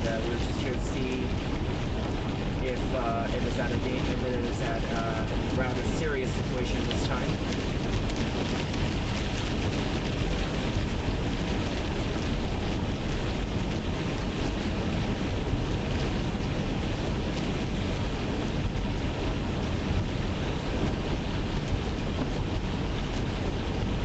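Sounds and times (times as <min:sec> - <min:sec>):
car road noise: 0:00.0 - 0:24.0.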